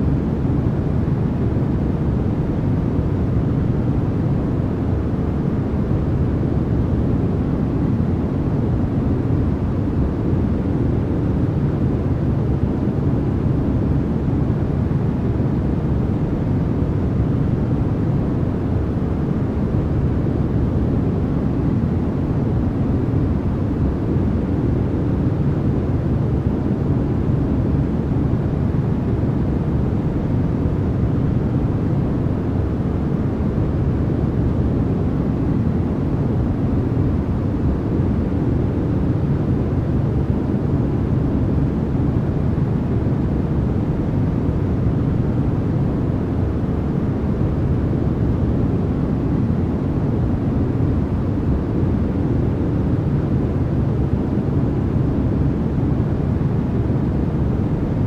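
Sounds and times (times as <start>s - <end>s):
deep white noise: 0.0s - 58.0s.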